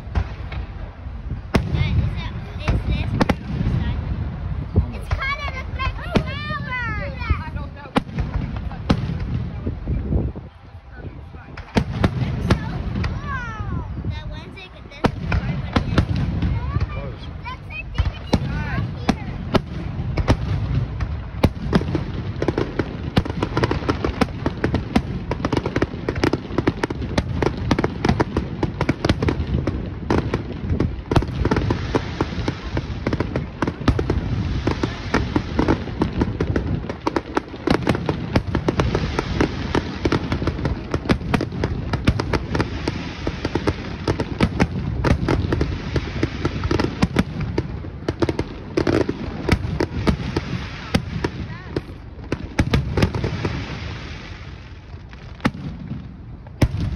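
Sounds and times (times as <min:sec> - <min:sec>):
fireworks banging: 0:00.0 - 0:10.6, 0:11.2 - 0:56.9.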